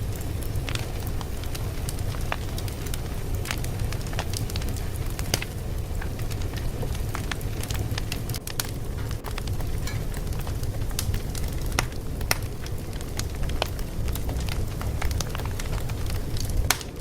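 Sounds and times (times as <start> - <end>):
fire crackling pops and snaps: 0.0 - 17.0.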